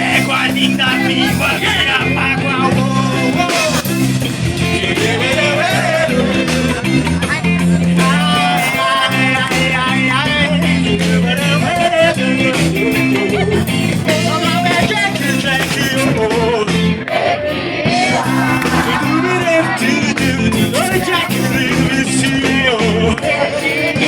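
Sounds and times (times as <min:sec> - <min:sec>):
reggae song with singing: 0:00.0 - 0:24.0.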